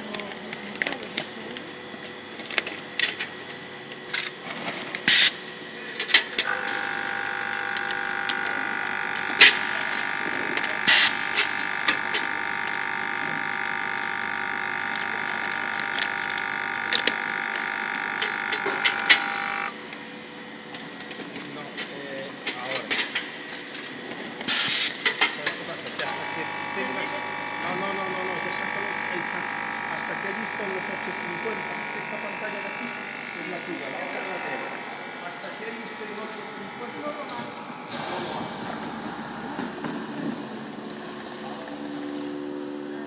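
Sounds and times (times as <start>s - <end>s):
steady machine whine: 0.0s - 43.0s.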